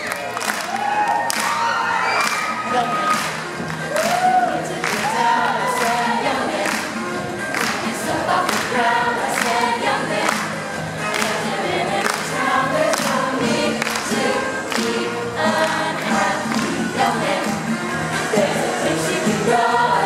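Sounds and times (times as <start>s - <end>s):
chorus singing: 2.5s - 20.0s.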